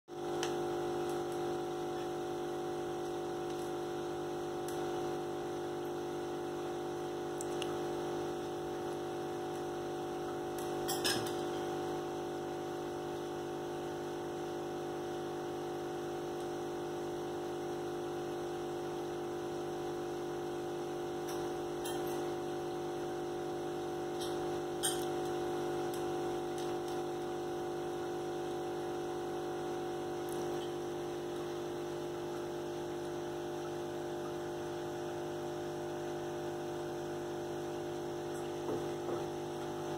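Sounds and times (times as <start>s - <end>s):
aquarium hum: 0.1s - 39.9s.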